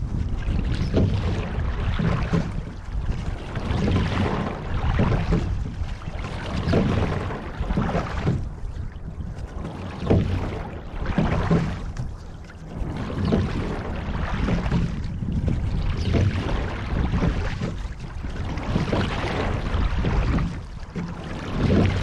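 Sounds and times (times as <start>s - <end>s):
water splashing along boat hull: 0.0s - 22.0s.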